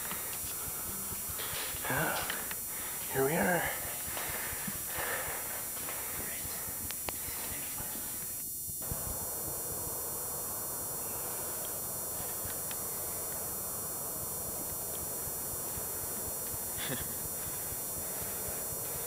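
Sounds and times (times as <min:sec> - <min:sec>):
steady hiss of empty arena: 0:00.0 - 0:19.0.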